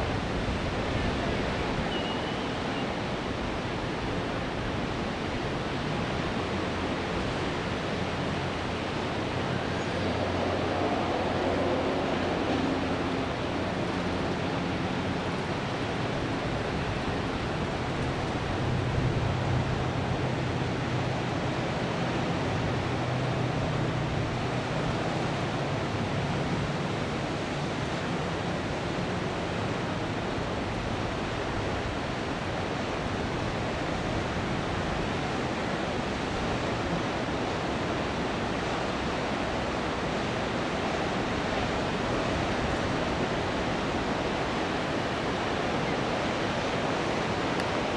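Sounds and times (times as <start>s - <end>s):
distant surf breaking: 0.0s - 47.9s
wind: 0.0s - 47.9s.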